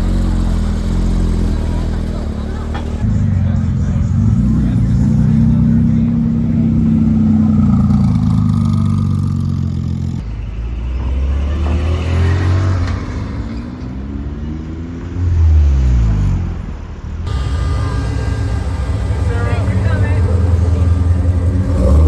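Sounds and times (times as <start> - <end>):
sports car engine revving: 0.0 - 10.2, 11.0 - 22.0.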